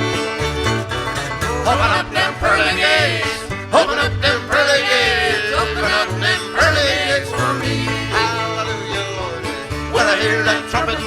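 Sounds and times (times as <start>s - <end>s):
country string band playing: 0.0s - 11.0s
steady bass line: 0.0s - 11.0s
people singing: 1.6s - 11.0s.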